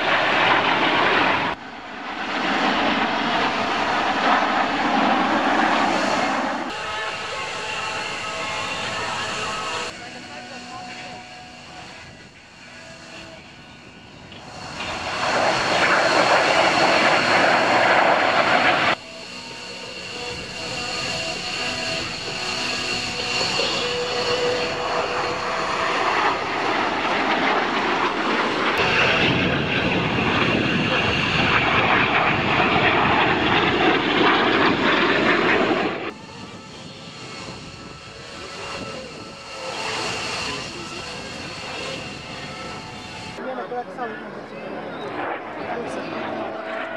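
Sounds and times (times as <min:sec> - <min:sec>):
jets flying past: 0:00.0 - 0:46.9.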